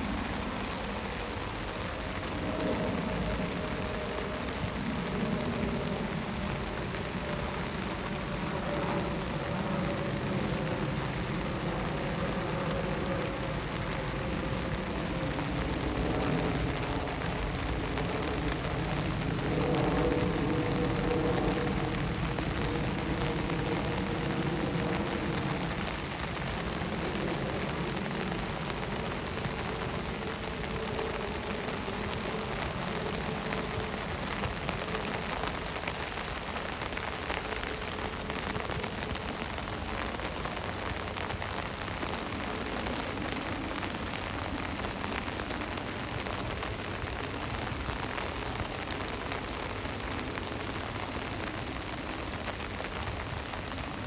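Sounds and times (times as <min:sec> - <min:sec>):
low engine drone: 0:00.0 - 0:52.1
rain hitting a car window: 0:00.0 - 0:54.0.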